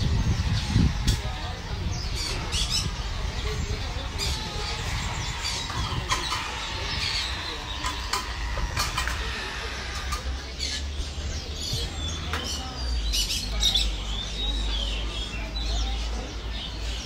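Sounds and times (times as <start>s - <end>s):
songbirds chirping and calling: 0.0s - 17.0s.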